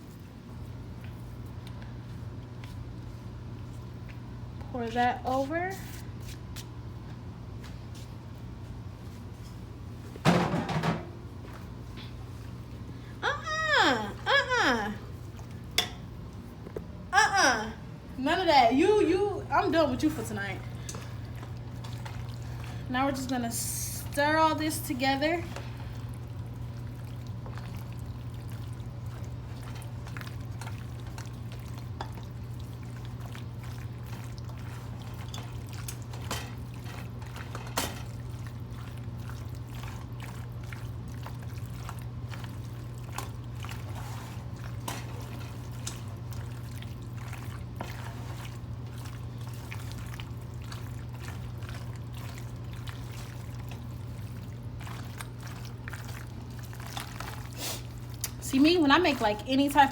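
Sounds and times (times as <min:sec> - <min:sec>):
low steady hum: 0:00.0 - 0:59.9
wet saucy mixing: 0:00.0 - 0:59.9.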